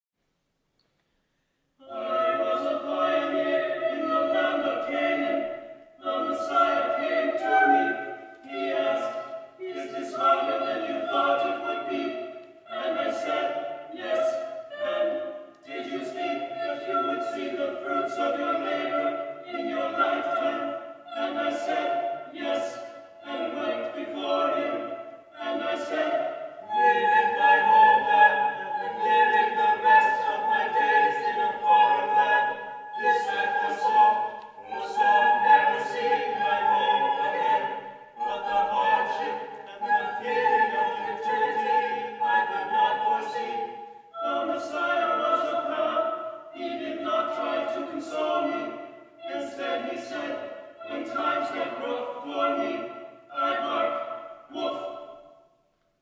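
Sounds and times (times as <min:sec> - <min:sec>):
a cappella choir singing: 0:01.8 - 0:56.0.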